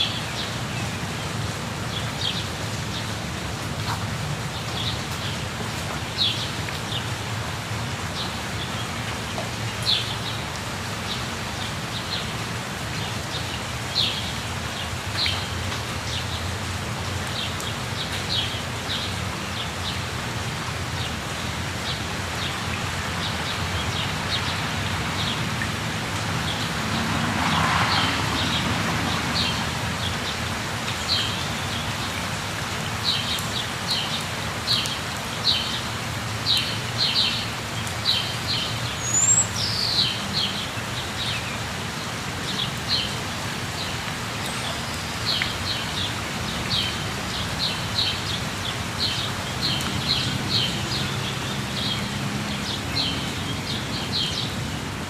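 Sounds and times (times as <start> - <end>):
falling water rushing: 0.0 - 55.0.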